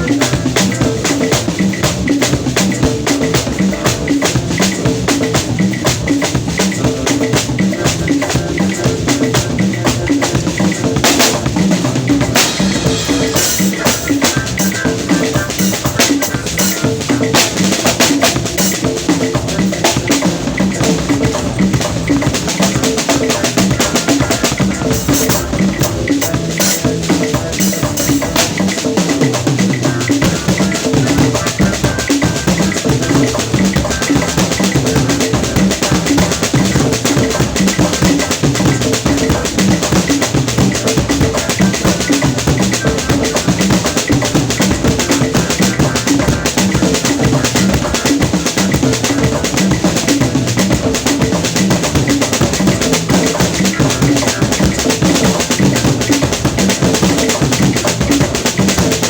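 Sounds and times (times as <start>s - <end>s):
drum kit playing busy rhythm: 0.0s - 59.0s.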